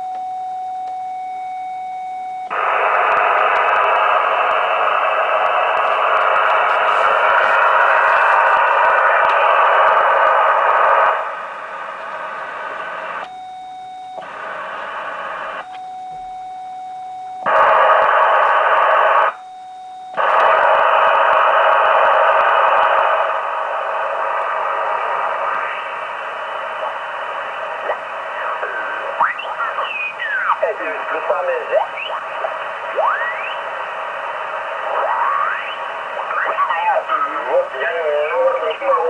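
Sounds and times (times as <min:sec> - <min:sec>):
radio whistles and chirps: 0:00.8 - 0:11.3, 0:17.2 - 0:39.0
radio receiver hiss: 0:02.5 - 0:13.3, 0:17.4 - 0:19.4, 0:20.2 - 0:39.0.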